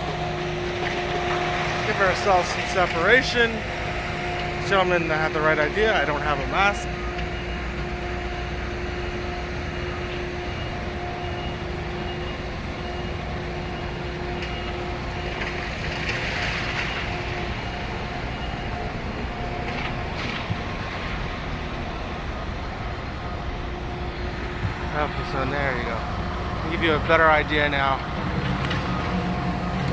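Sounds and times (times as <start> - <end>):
heavy engines rumbling: 0.0 - 29.9.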